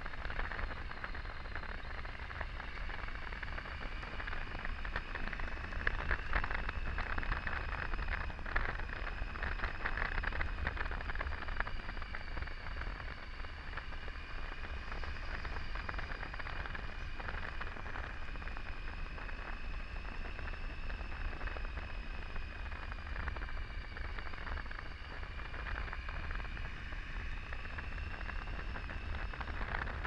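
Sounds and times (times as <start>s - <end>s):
faint motorcycle engine whine: 0.0s - 30.0s
wind rushing over microphone: 0.0s - 30.0s.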